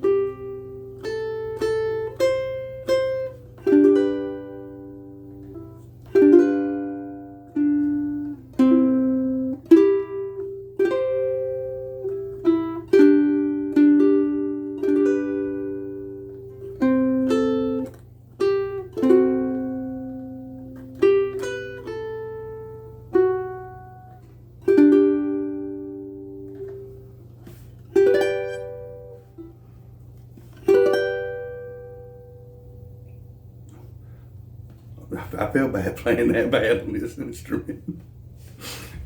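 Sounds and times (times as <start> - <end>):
ukulele plucked slowly: 0.0 - 34.9.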